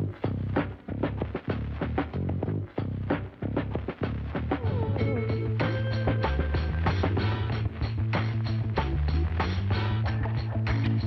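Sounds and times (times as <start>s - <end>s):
music with plucked notes and bass: 0.0s - 11.0s.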